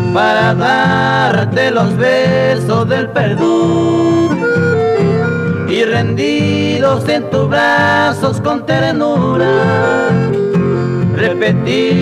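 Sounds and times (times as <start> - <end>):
guitar accompaniment: 0.0 - 12.0
lively polka lead melody: 0.0 - 12.0.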